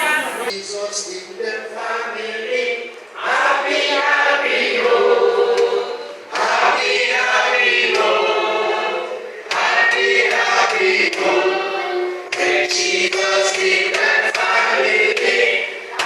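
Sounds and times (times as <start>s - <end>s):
group singing in church: 0.0s - 16.0s.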